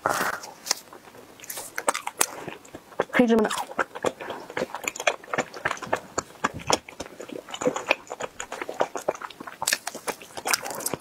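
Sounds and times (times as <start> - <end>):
close chewing with mouth clicks: 0.0 - 11.0.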